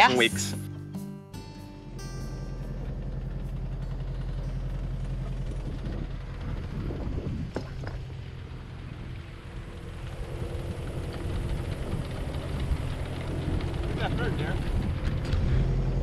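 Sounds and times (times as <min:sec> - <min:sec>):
small engine humming steadily: 0:01.8 - 0:16.0.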